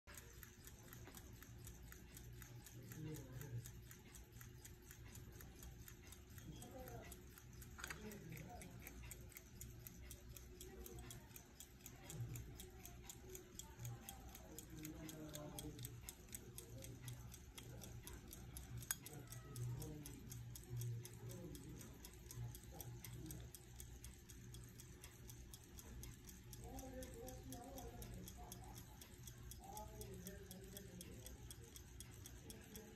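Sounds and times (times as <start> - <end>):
pocket watch ticking: 0.0 - 32.9
sharp watch click: 0.1 - 32.9.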